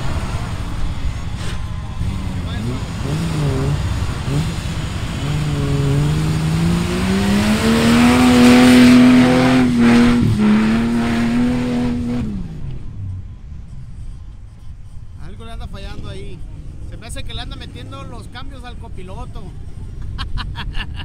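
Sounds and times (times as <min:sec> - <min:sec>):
engine revving: 0:00.0 - 0:14.1, 0:15.8 - 0:19.9.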